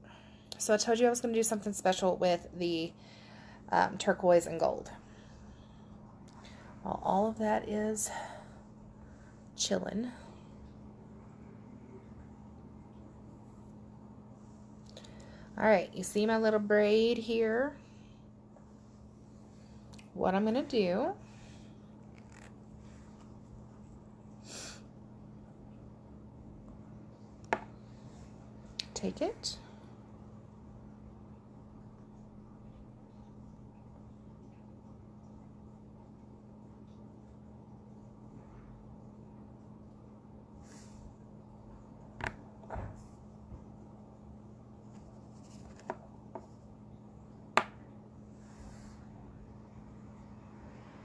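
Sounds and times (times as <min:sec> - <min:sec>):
faint low hum: 0:00.0 - 0:51.0.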